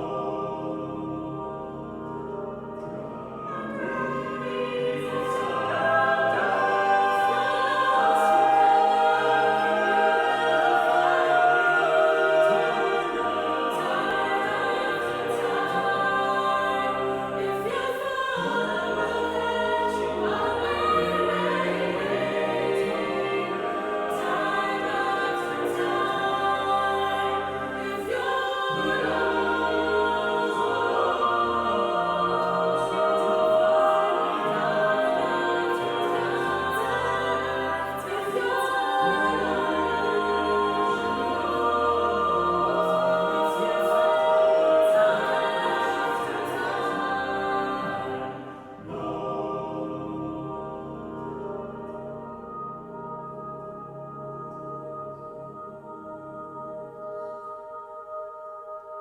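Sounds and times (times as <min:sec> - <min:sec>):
choir singing held chords: 0:00.0 - 0:59.0.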